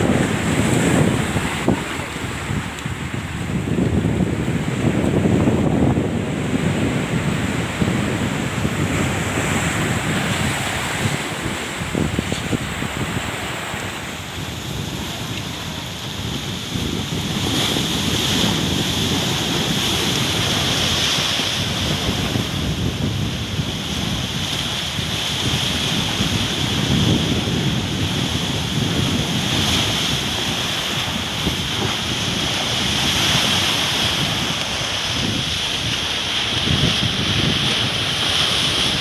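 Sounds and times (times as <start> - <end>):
heavy surf breaking: 0.0 - 39.0
wind blowing over microphone: 0.0 - 39.0.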